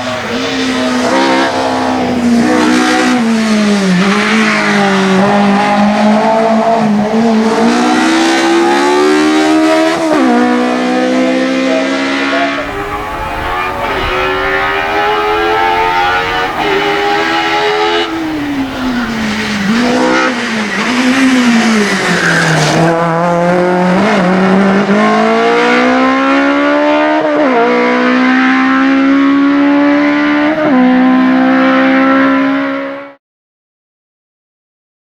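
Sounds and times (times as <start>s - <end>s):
racing engine revving: 0.0s - 33.2s.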